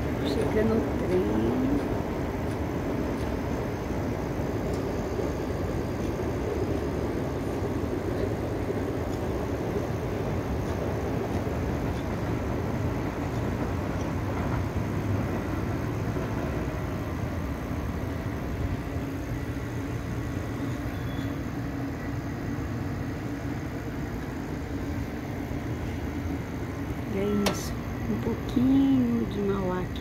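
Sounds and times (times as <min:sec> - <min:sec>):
city traffic hum: 0:00.0 - 0:30.0.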